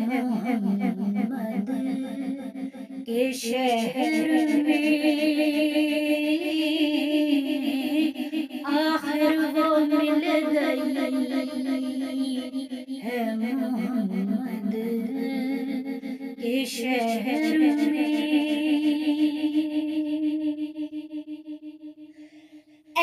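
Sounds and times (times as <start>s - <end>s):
woman singing unaccompanied: 0.0s - 21.5s.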